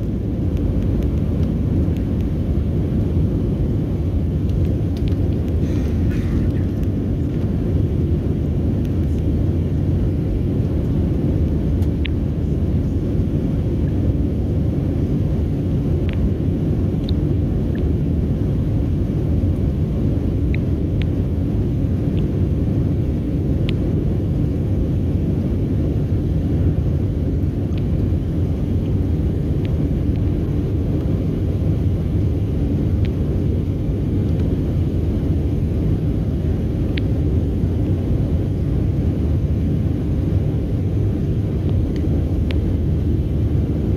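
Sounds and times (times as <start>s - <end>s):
jet engines roaring in cabin: 0.0s - 43.9s
rushing airflow: 0.0s - 43.9s.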